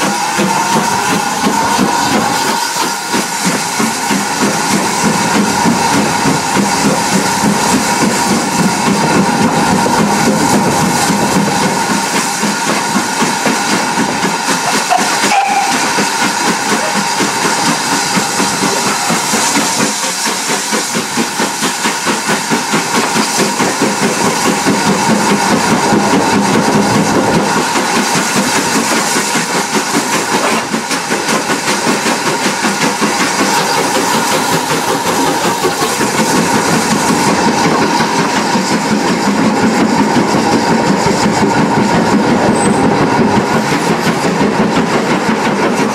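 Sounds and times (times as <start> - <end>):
steam hissing: 0.0 - 45.9
steam locomotive exhaust beat: 0.0 - 45.9.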